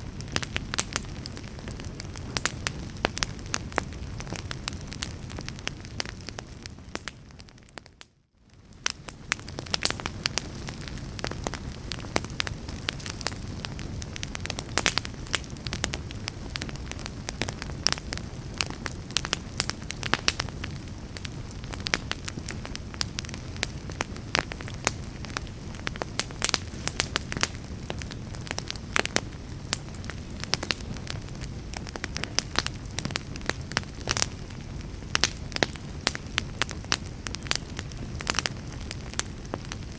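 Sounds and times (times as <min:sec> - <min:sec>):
flames rushing in a fireplace: 0:00.0 - 0:07.8, 0:08.5 - 0:39.9
burning wood crackling and popping: 0:00.0 - 0:39.9.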